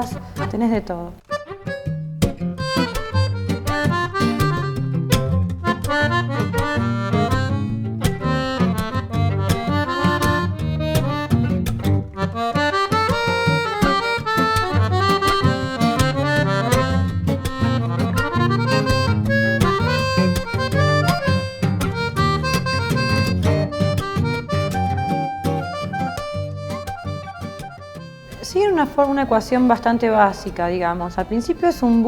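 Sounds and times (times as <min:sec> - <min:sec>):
busy instrumental melody: 0:00.0 - 0:32.0.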